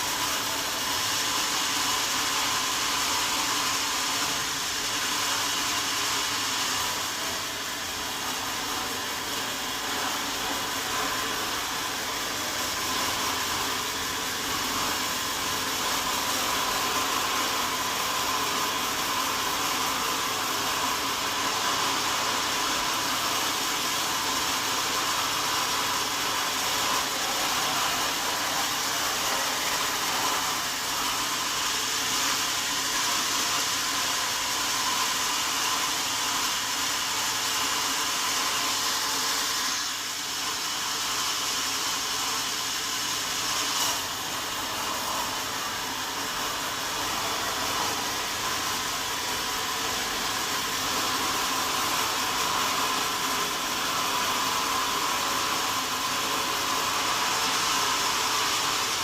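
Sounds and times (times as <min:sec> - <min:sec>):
sawmill saw whirring: 0:00.0 - 0:59.0.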